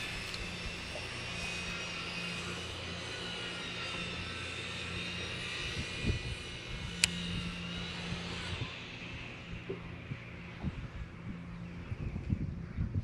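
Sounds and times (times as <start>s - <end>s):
motor hum with high whine: 0.0s - 13.0s.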